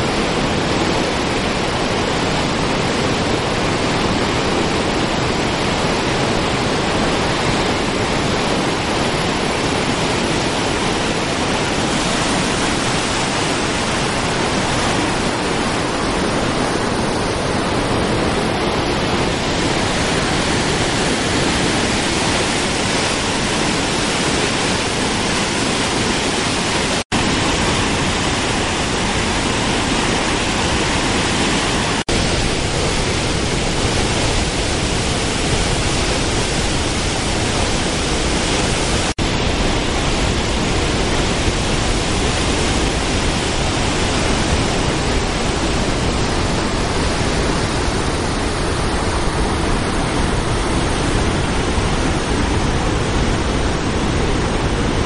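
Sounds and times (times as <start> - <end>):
roar of rushing falling water: 0.0 - 55.0.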